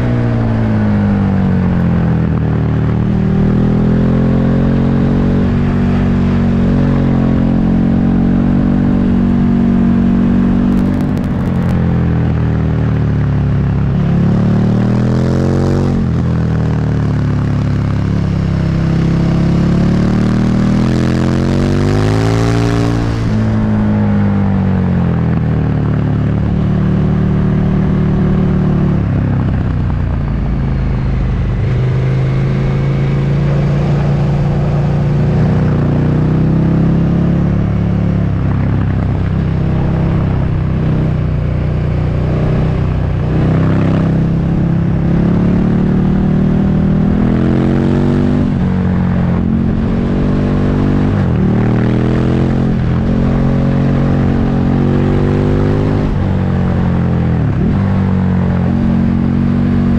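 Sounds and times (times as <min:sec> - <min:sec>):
motorcycle engine revving: 0:00.0 - 0:59.9
motorcycle engine running: 0:00.0 - 0:59.9.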